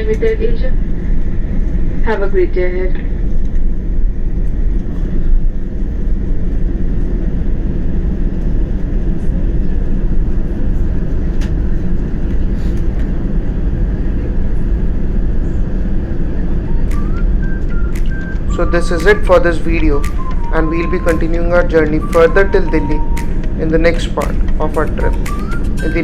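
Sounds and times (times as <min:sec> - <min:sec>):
aircraft cabin rumble: 0:00.0 - 0:26.0.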